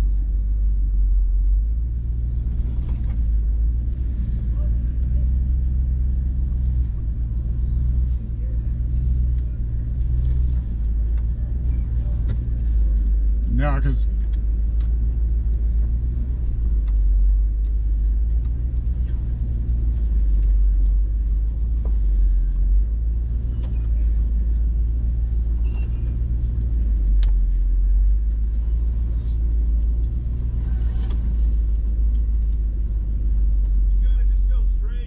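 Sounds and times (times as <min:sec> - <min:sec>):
engine rumbling inside cabin: 0:00.0 - 0:35.0.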